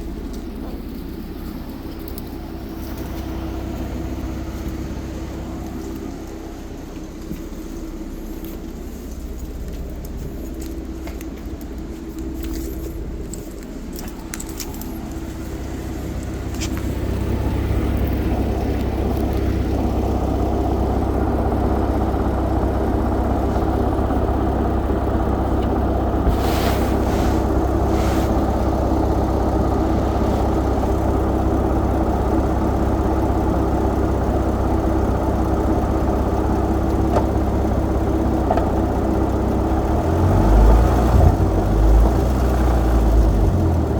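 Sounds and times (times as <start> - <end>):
car engine low rumble and hum: 0.0 - 43.9.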